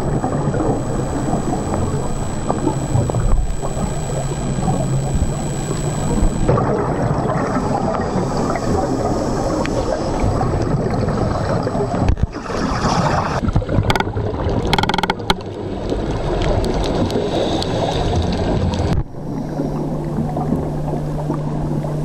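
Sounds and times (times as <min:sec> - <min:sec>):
underwater bubbles gurgling: 0:00.0 - 0:22.0.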